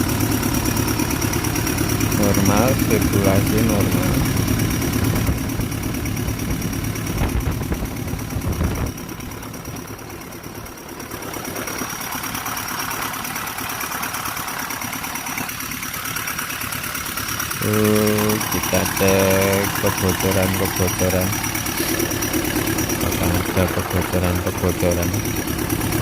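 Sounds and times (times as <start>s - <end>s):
excavator diesel engine idling: 0.0s - 26.0s.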